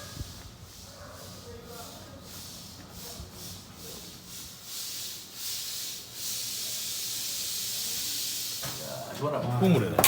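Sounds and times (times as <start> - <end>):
hiss: 0.0 - 8.8.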